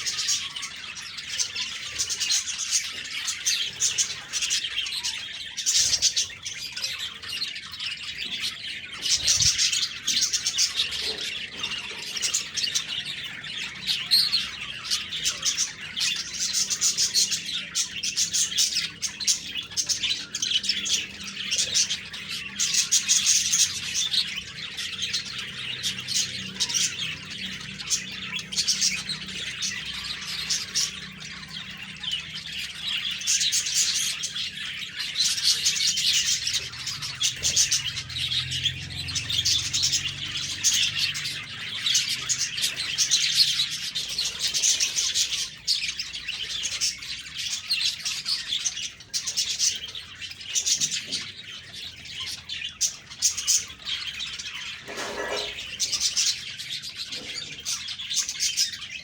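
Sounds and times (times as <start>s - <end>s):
budgerigars chirping and warbling: 0.0s - 59.0s.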